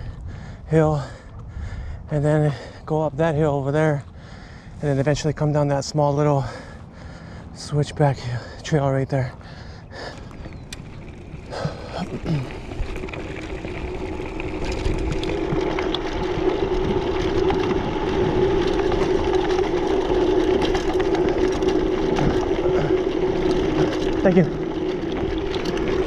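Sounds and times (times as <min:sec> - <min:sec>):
bike wheels humming: 0:00.0 - 0:26.0
small clicks from trail: 0:00.0 - 0:26.0.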